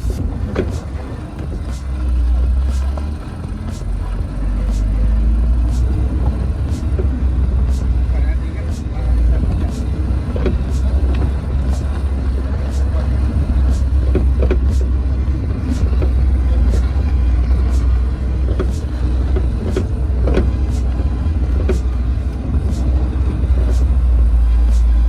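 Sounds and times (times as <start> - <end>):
engine and tyre rumble: 0.0 - 25.0.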